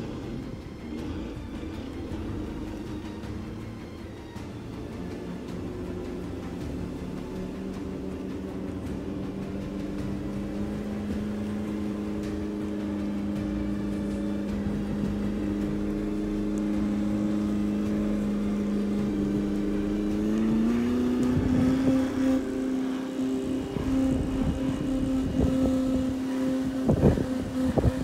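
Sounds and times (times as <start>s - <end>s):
electric motor whining: 0.0s - 28.0s
irregular low rumbling: 0.0s - 28.0s.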